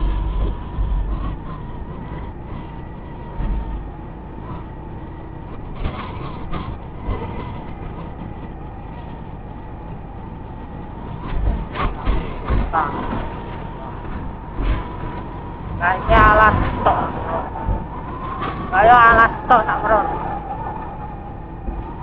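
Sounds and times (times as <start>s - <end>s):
motorcycle engine whine: 0.0s - 22.0s
wind and road noise: 0.0s - 22.0s.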